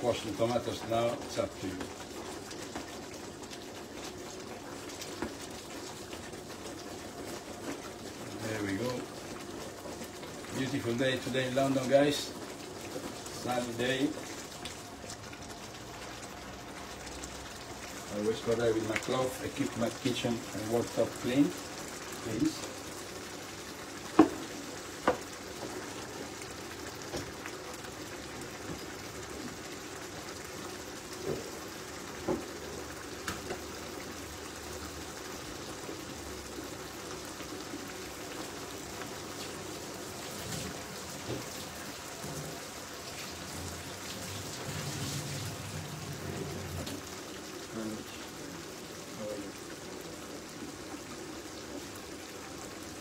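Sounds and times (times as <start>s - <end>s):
sauce bubbling in a frying pan: 0.0s - 53.0s.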